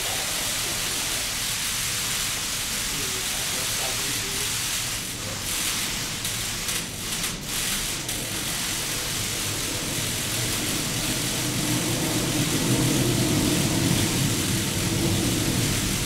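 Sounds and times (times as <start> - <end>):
water falling and splashing: 0.0 - 16.0.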